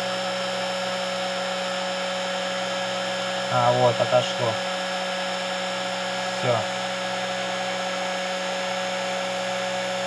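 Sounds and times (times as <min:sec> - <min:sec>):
hot air gun blowing whir: 0:00.0 - 0:10.0.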